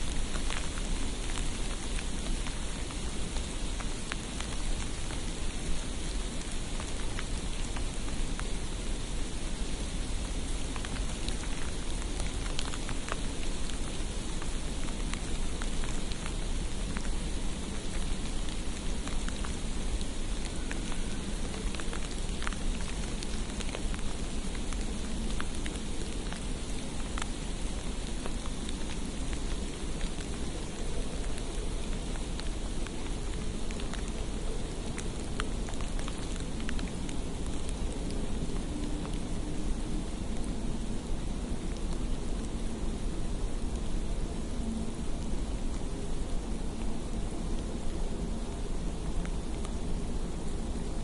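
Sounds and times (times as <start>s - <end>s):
low steady rumble: 0.0s - 51.0s
precipitation hiss: 0.0s - 51.0s.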